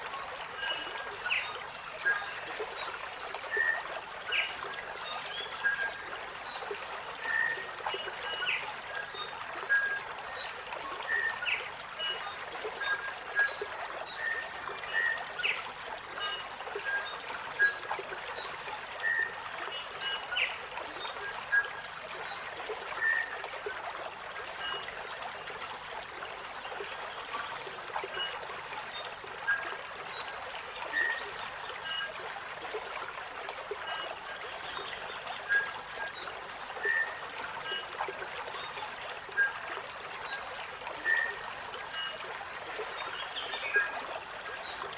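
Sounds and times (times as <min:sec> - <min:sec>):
water trickling: 0:00.0 - 0:44.9.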